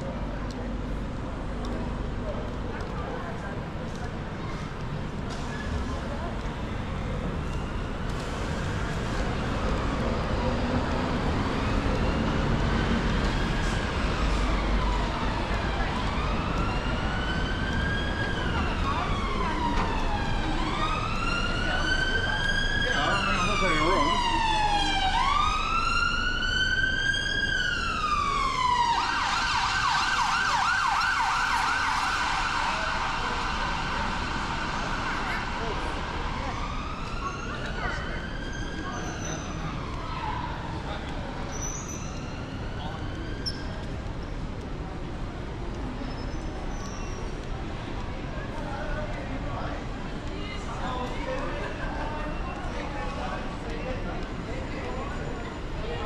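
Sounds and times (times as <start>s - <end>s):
city traffic rumble: 0.0s - 56.0s
low street noise: 0.0s - 56.0s
emergency vehicle siren: 5.0s - 56.0s.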